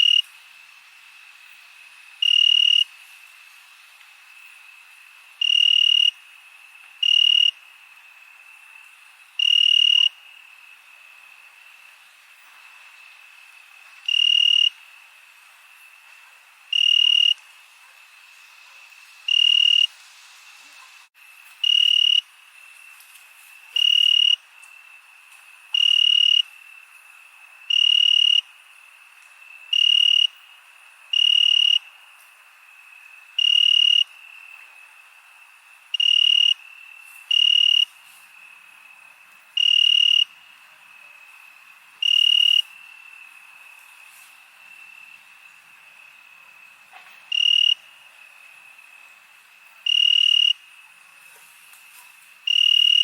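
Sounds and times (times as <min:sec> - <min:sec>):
cricket chirping: 0:00.0 - 0:53.0
distant insects trilling: 0:00.0 - 0:53.0.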